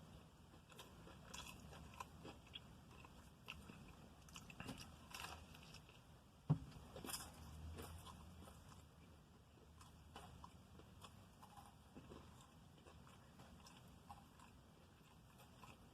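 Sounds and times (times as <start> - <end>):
person chewing crispy food: 0.0 - 15.9.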